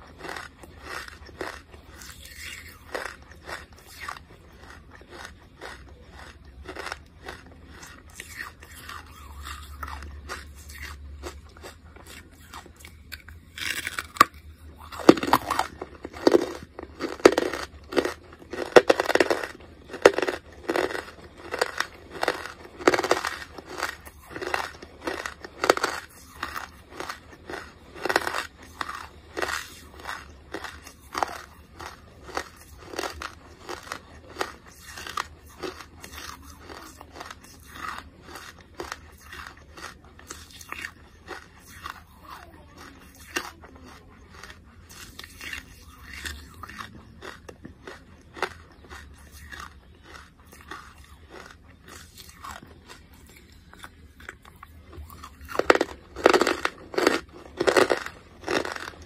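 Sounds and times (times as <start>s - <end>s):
person chewing charcoal: 0.0s - 59.0s.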